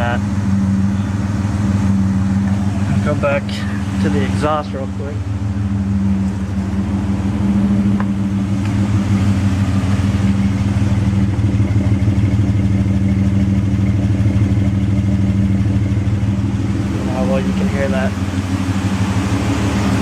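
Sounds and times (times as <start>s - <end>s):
car exhaust idling: 0.0s - 20.0s.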